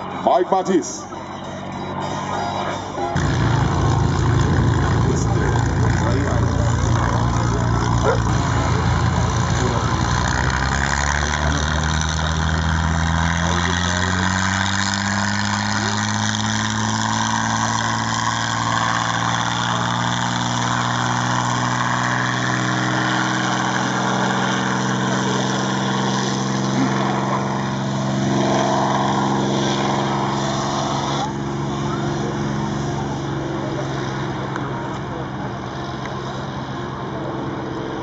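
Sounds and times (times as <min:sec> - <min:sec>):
aircraft piston engine running: 0:00.0 - 0:38.0.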